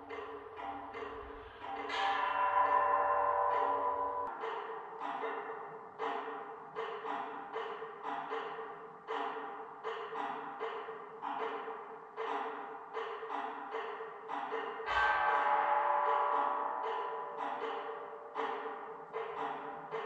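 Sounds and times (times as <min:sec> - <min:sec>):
gentle percussive background music: 0:00.0 - 0:20.0.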